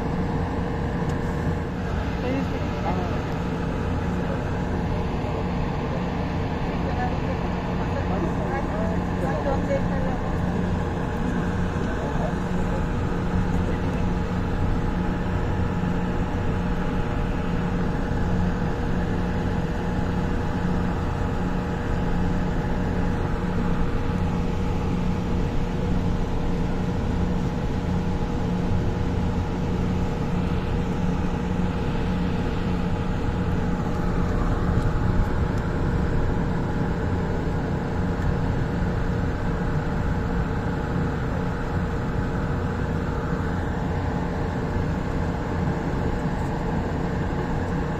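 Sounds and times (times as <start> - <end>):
train running hum: 0.0 - 47.9.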